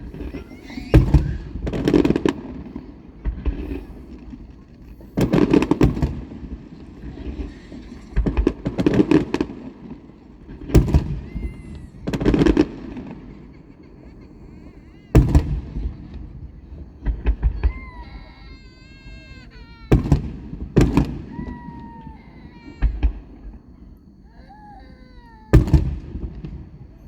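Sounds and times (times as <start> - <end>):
fireworks booming: 0.0 - 27.0.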